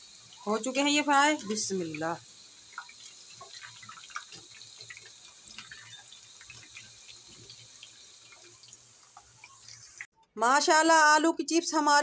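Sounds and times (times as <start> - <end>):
potato slices deep-frying in oil: 0.0 - 10.1.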